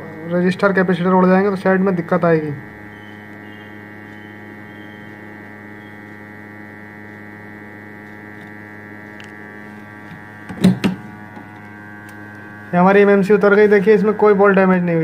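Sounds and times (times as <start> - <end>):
hot-air station humming: 0.0 - 15.0.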